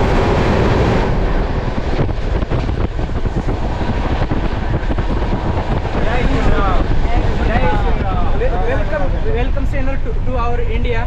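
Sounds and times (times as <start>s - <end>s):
train rumbling on rails: 0.0s - 11.0s
wind buffeting microphone: 0.0s - 11.0s.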